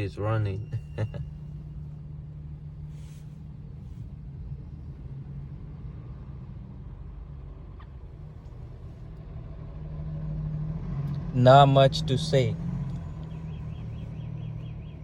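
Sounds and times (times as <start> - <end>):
car engine rumble: 0.0 - 15.0
road traffic: 0.0 - 15.0.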